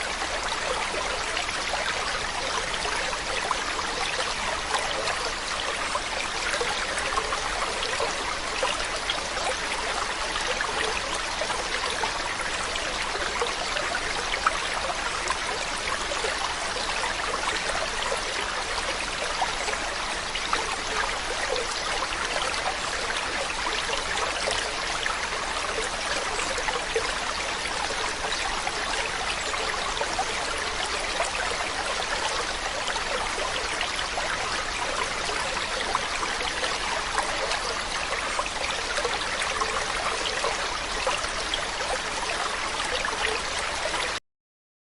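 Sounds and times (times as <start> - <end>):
running water rushing: 0.0 - 44.2.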